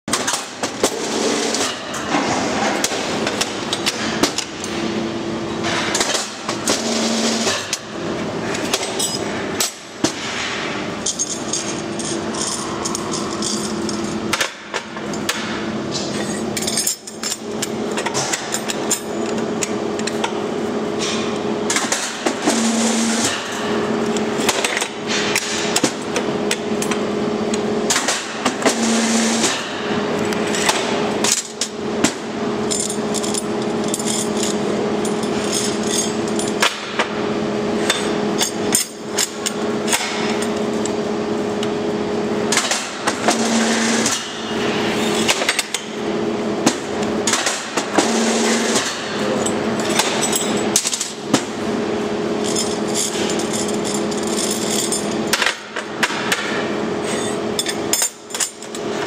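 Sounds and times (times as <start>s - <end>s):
bending machine humming: 0.1s - 59.0s.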